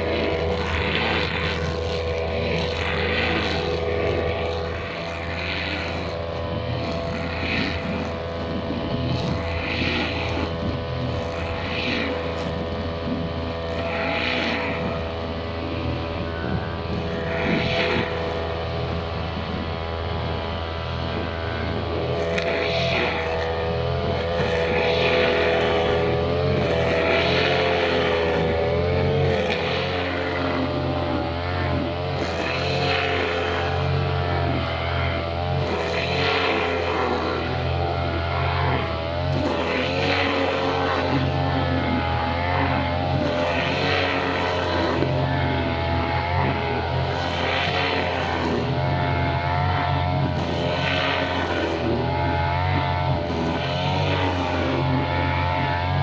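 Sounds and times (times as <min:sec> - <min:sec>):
brushcutter engine at high revs: 0:00.0 - 0:56.0.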